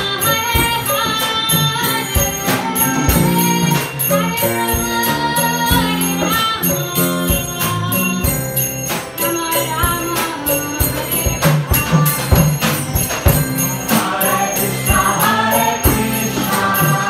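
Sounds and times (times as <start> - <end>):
band playing devotional song: 0.0 - 17.0
jingling hand percussion: 0.0 - 17.0.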